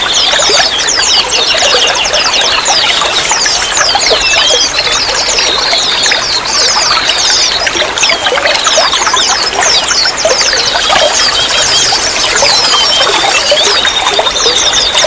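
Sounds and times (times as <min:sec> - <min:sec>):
songbirds chirping: 0:00.0 - 0:15.0
water trickling: 0:00.0 - 0:15.0.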